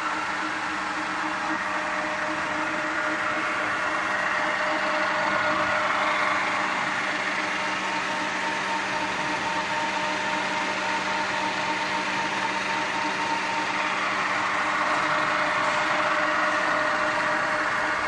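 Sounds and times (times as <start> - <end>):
milling machine running: 0.0 - 18.0.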